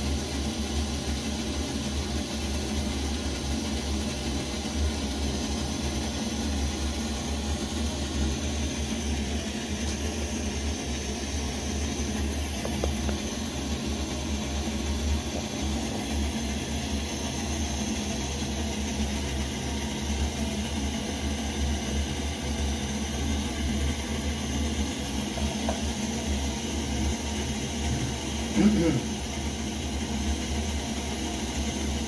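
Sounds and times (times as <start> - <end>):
gas stove burner roaring: 0.0 - 32.0.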